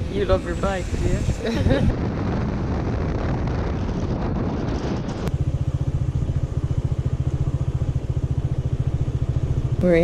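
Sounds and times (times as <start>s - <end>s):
motorbike riding with rushing air: 0.0s - 10.0s
motorbike engine pulsing: 1.6s - 10.0s.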